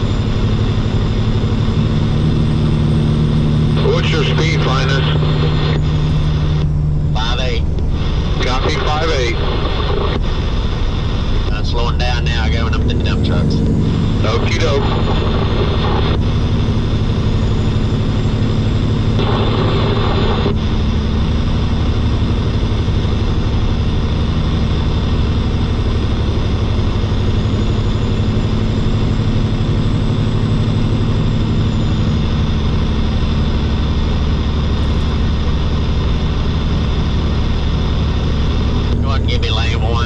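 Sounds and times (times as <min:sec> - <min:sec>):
diesel truck engine running: 0:00.0 - 0:40.0
road and wind noise: 0:00.0 - 0:40.0.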